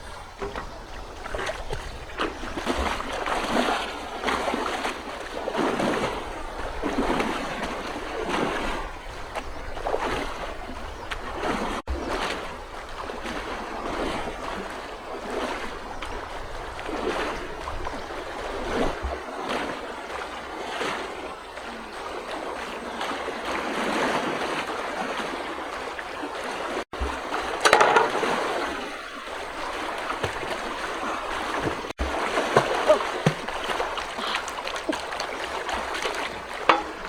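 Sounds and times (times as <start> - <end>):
water sloshing and splashing: 0.0 - 37.0.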